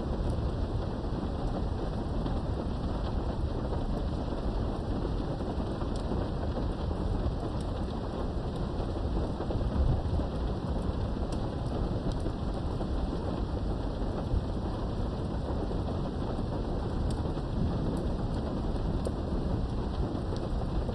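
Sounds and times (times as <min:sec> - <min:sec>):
low rumbling thunder: 0:00.0 - 0:20.9
steady rain behind window: 0:00.0 - 0:20.9.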